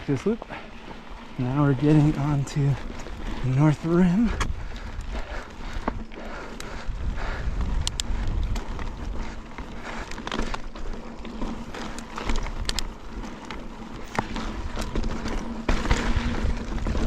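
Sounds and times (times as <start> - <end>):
bike clicks and rattles: 0.0 - 17.0
bike tyre noise: 0.0 - 17.0
wind rumble on microphone: 1.1 - 17.0.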